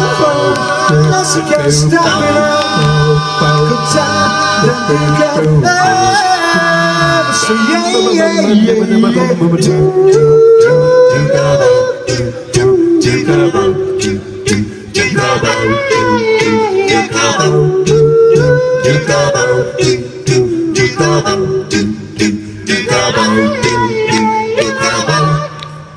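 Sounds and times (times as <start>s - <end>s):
bass line: 0.0s - 25.9s
voice-like lead melody: 0.0s - 25.9s.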